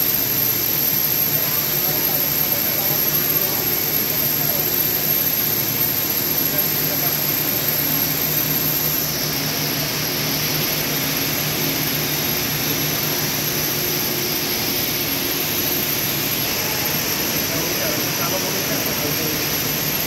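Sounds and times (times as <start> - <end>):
high-pitched whine: 0.0 - 20.0
machine whir and hiss: 0.0 - 20.0.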